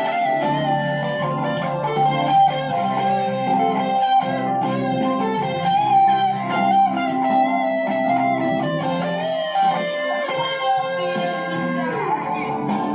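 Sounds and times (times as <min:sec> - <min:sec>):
electric guitar with string bends: 0:00.0 - 0:12.9.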